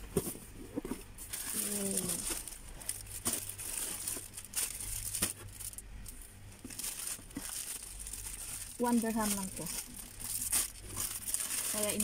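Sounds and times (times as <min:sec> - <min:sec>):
plastic bags crinkling: 0:01.2 - 0:12.0.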